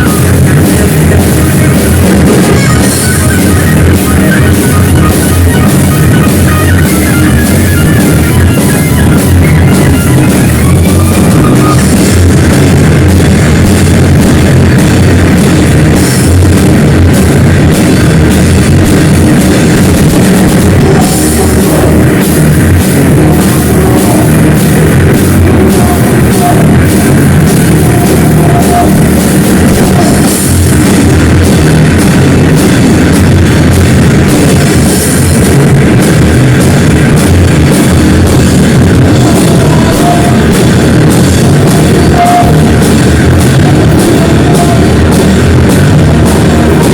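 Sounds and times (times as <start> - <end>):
distorted guitar: 0.0 - 46.9
drum kit: 0.0 - 46.9
high guitar notes: 0.0 - 46.9.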